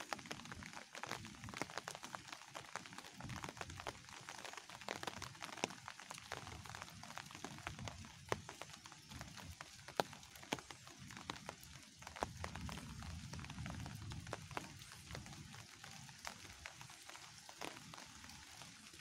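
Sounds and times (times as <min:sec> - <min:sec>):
faint hiss of rain: 0:00.0 - 0:19.0
raindrops ticking: 0:00.0 - 0:19.0.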